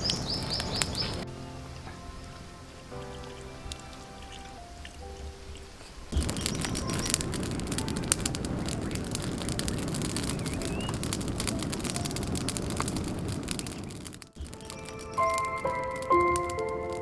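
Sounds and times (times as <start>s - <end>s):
fire roaring: 0.0s - 17.0s
wood crackling and popping: 0.0s - 17.0s.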